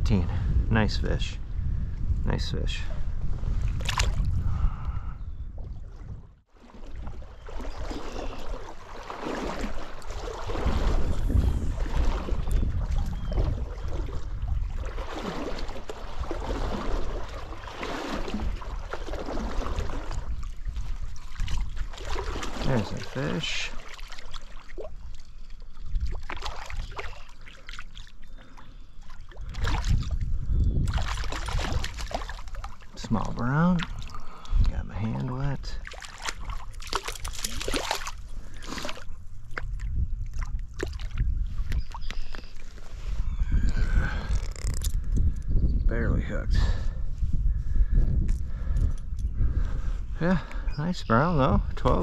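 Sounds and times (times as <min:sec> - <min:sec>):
wind buffeting microphone: 0:00.0 - 0:06.4, 0:09.4 - 0:23.6, 0:29.2 - 0:52.0.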